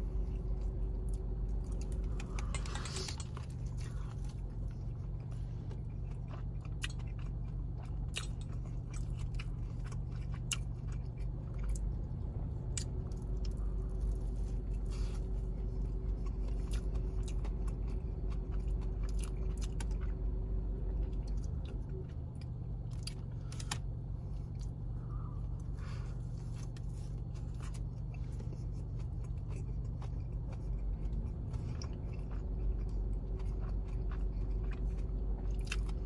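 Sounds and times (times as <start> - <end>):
person chewing crunchy food: 0.0 - 36.0
steady low hum: 0.0 - 36.0.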